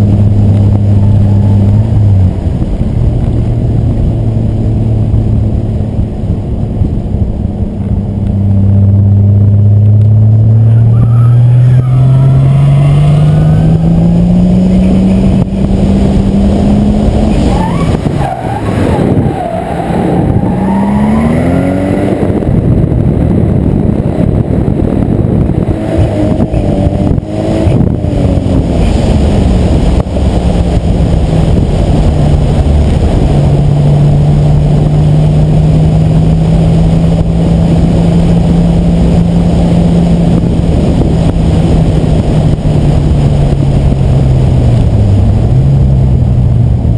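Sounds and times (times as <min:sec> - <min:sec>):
car engine revving: 0:00.0 - 0:46.9
constant rushing noise: 0:00.0 - 0:46.9.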